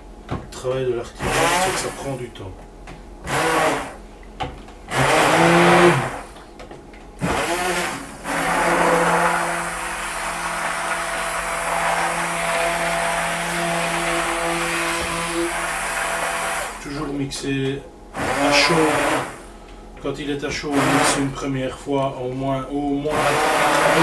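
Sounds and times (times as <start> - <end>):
stick blender humming: 1.0 - 21.6, 22.5 - 24.0.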